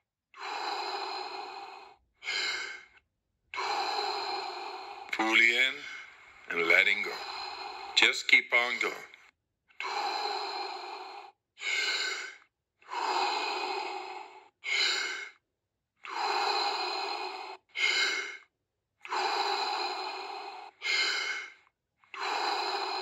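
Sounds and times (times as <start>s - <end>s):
woman breathing deeply and rhythmically: 0.0s - 23.0s.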